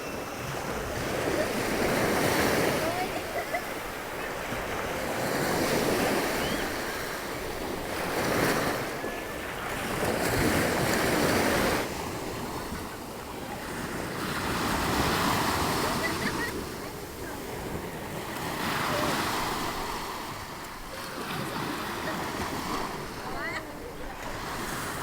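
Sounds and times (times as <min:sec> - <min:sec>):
surf breaking on beach: 0:00.0 - 0:25.0.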